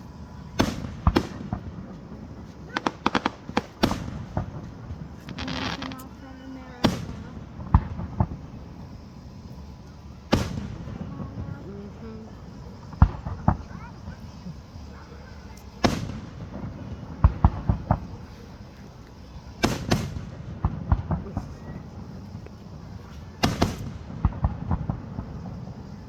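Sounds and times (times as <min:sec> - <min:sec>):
fireworks booming: 0:00.0 - 0:26.0
fireworks popping and crackling: 0:00.0 - 0:26.0.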